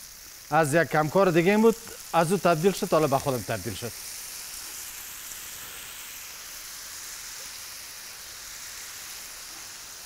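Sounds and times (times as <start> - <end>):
food sizzling in a pan: 0.0 - 10.0
sauce being poured: 0.0 - 10.0.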